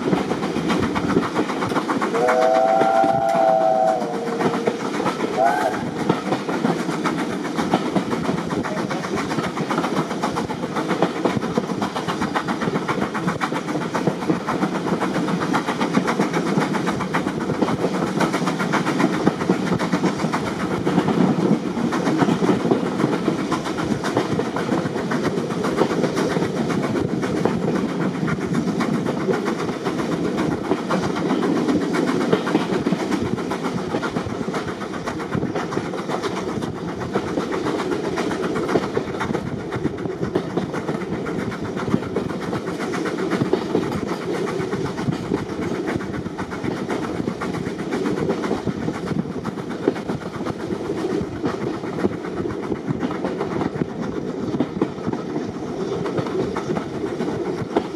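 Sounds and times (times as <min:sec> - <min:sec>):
train wheels rumbling on track: 0:00.0 - 0:57.9.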